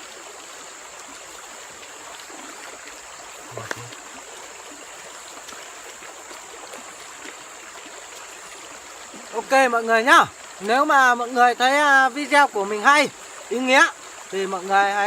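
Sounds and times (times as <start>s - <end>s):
stream water running: 0.0s - 15.0s.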